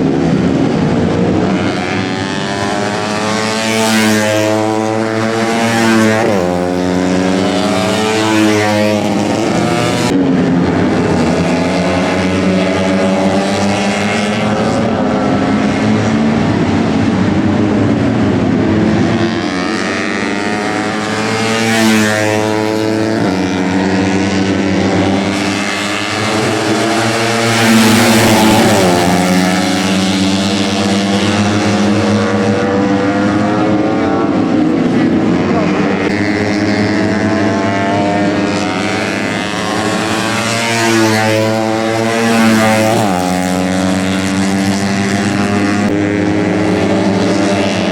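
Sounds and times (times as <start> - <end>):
race motorcycles at high revs: 0.0 - 47.9.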